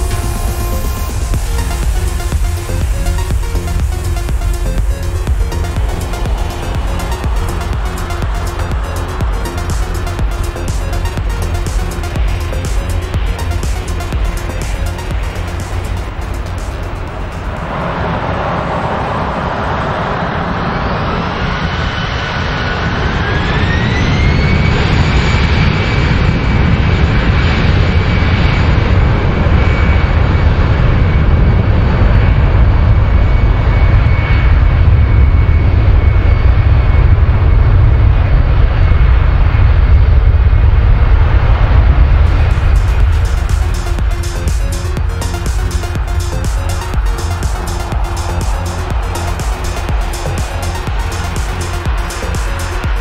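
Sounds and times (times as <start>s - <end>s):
low engine rumble: 0.0s - 24.1s, 28.6s - 53.0s
jet engine whine rising: 0.0s - 53.0s.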